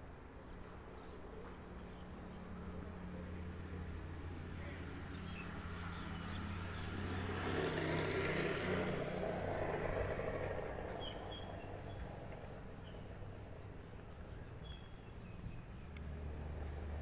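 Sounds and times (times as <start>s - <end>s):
vehicle passing by: 2.1s - 17.0s.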